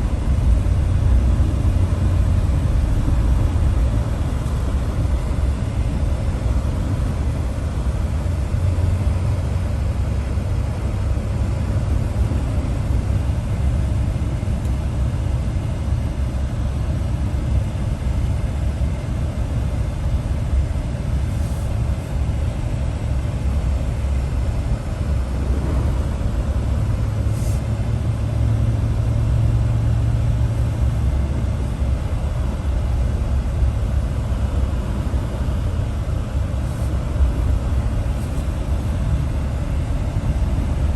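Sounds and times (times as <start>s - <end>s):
road noise: 0.0s - 16.4s, 21.2s - 40.9s
vehicle engine rumble: 0.0s - 40.9s.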